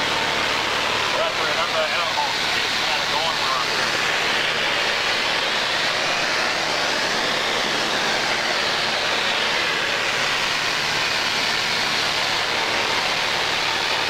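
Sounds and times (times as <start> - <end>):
small plane engine drone in cabin: 0.0 - 14.0.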